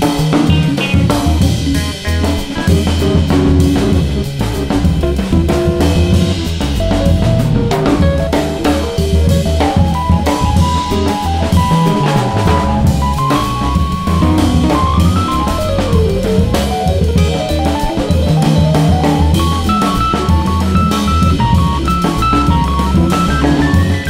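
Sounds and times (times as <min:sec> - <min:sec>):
bass: 0:00.0 - 0:24.0
drum kit beat: 0:00.0 - 0:24.0
melodic guitar line: 0:00.0 - 0:24.0.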